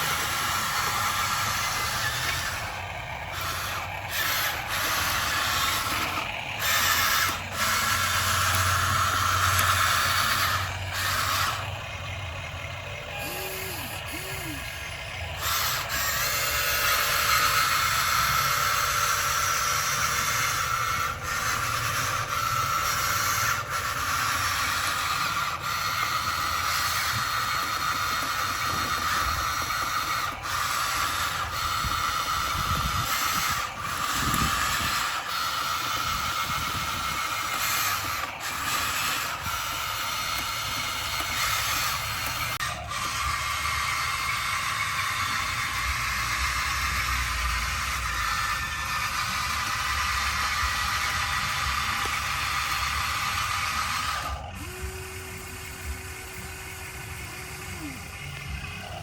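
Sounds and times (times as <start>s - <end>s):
low machine rumble: 0.0s - 59.0s.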